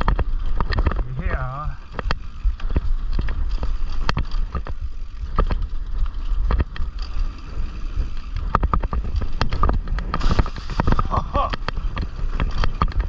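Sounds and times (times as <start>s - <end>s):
bike rolling on dirt trail rumble: 0.0s - 13.0s.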